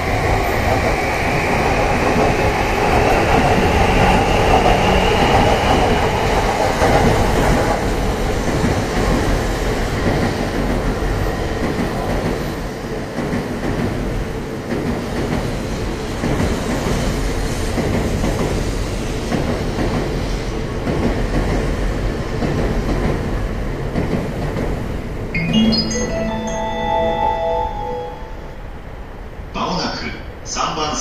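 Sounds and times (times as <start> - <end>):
train running past on rails: 0.0 - 29.6.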